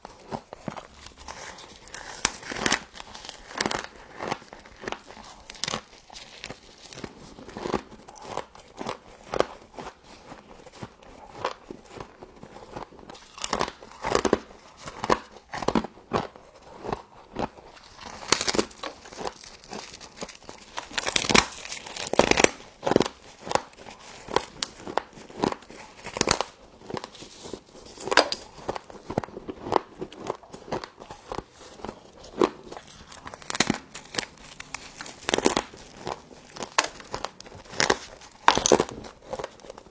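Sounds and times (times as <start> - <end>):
frost crunching when chewed: 0.0 - 39.9.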